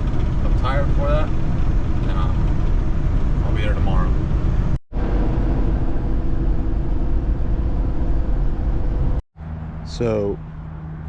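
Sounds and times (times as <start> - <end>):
truck road and engine rumble: 0.0 - 11.0.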